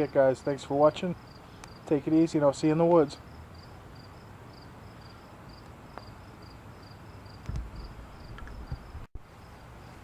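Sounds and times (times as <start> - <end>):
insect chirping: 0.0 - 1.9, 3.2 - 10.0.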